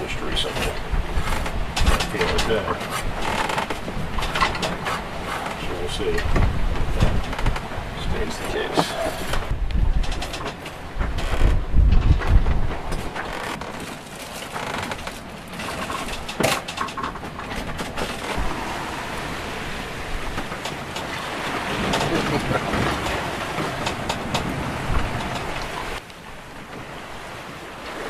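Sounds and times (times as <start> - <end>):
rushing water: 0.0 - 11.8, 12.4 - 28.0
rushing wind: 0.0 - 28.0.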